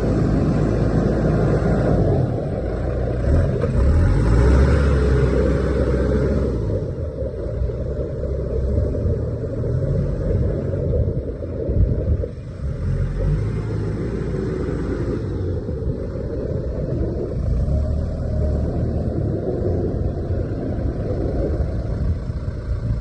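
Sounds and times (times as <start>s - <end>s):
tractor diesel engine rumbling: 0.0s - 23.0s.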